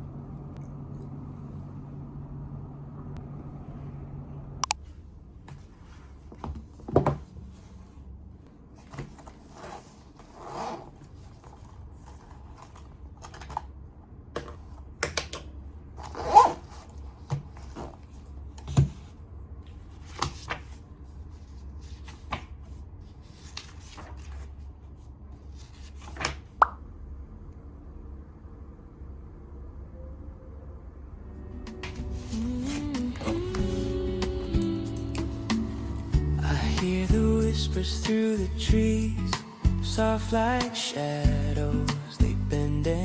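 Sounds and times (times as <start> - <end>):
faint low hum: 0.0 - 40.6.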